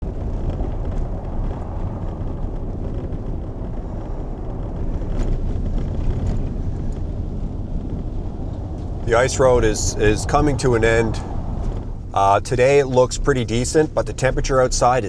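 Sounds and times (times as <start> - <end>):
moving vehicle rumble: 0.0 - 14.5.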